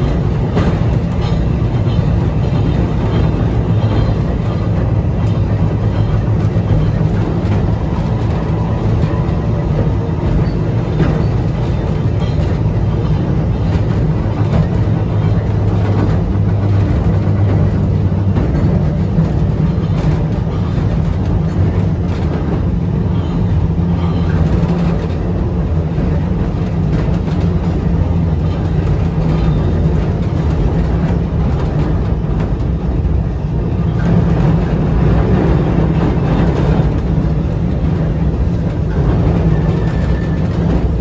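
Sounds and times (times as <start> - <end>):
tram wheels rumbling and humming: 0.0 - 41.0.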